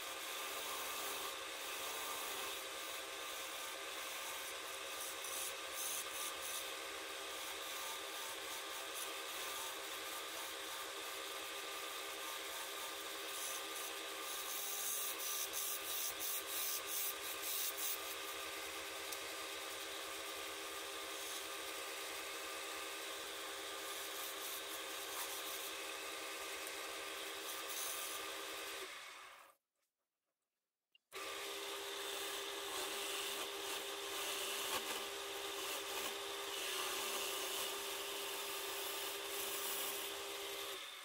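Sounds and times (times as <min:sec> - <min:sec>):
wood lathe running: 0:00.1 - 0:29.4, 0:31.2 - 0:41.0.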